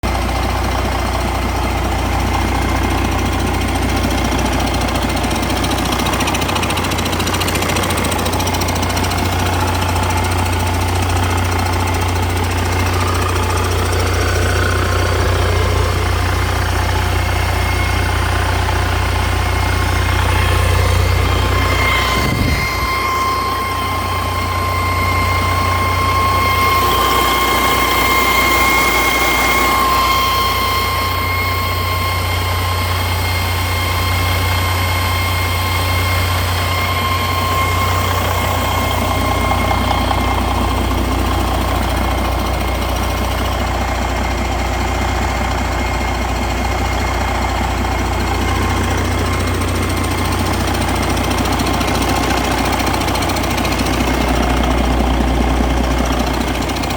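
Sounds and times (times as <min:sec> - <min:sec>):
diesel engine rumbling: 0:00.0 - 0:56.9
high engine whine: 0:00.0 - 0:56.9.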